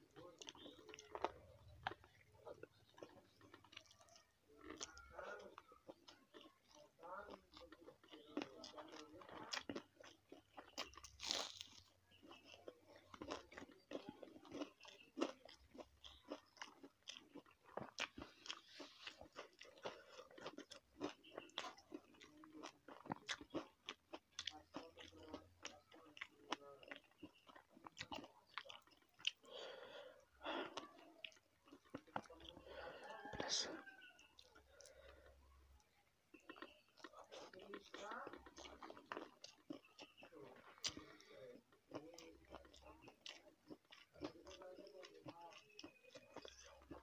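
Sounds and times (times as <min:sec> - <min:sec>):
person chewing and crunching food: 0:00.0 - 0:47.0.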